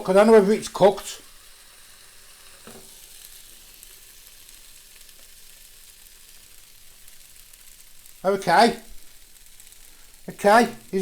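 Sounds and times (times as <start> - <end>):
chicken sizzling on a grill: 0.0 - 11.0.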